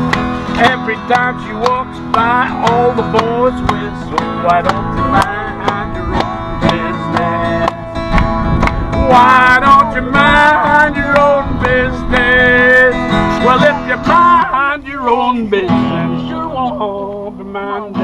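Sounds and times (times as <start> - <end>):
acoustic guitar strumming: 0.0 - 18.0
man singing: 0.5 - 8.0, 9.0 - 18.0
people singing along: 0.6 - 8.0, 8.7 - 18.0.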